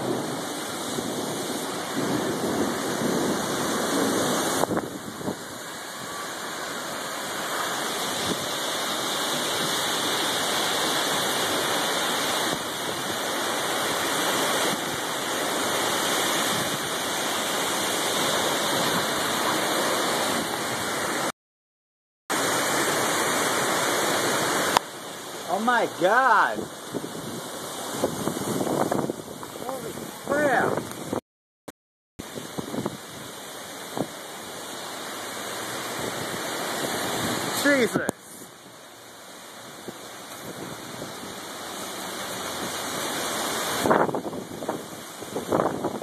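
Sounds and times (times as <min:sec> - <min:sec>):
gusts buffeting microphone: 0:00.0 - 0:21.3, 0:22.5 - 0:31.2, 0:32.2 - 0:46.0
storm wind and rain rushing: 0:00.0 - 0:21.3, 0:22.3 - 0:31.2, 0:32.2 - 0:46.0.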